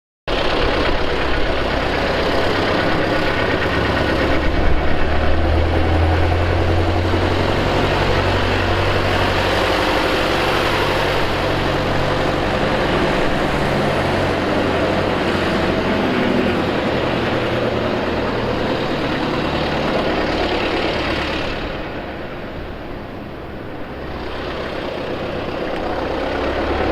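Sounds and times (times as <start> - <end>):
diesel engine running: 0.3 - 26.9.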